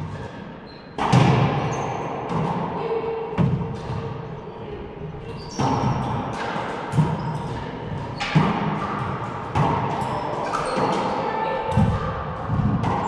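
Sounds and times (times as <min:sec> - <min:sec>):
echoing racquetball hits: 0:00.0 - 0:13.0.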